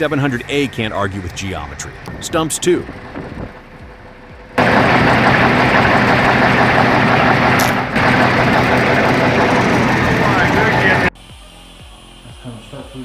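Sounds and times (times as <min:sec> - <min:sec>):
heavy vehicle engine running: 0:00.0 - 0:12.4.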